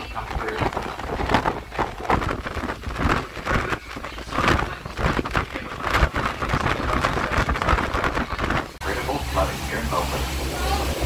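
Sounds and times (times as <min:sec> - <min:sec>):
wind buffeting microphone: 0:00.0 - 0:09.6
choppy water: 0:00.0 - 0:11.0
waterfall rushing: 0:00.0 - 0:11.0.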